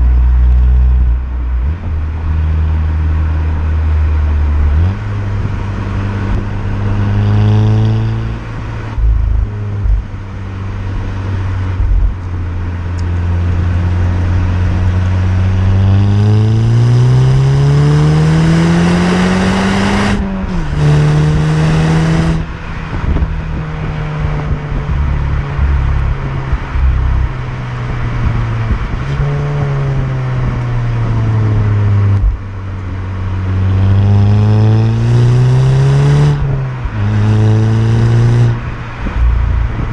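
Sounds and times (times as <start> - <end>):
car engine revving while driving: 0.0 - 39.9.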